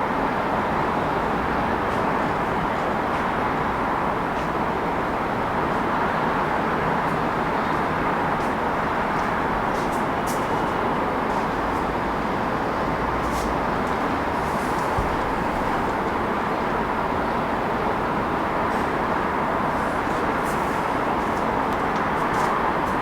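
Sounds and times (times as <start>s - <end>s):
city traffic: 0.0s - 23.0s.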